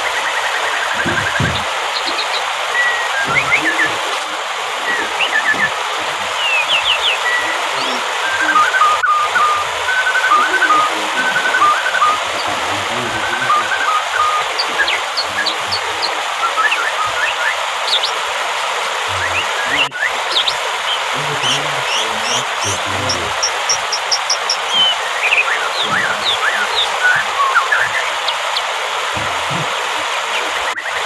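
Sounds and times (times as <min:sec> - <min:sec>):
bird trilling: 0:00.0 - 0:18.4, 0:19.0 - 0:31.0
birds chirping: 0:00.0 - 0:31.0
waterfall rushing: 0:00.0 - 0:31.0.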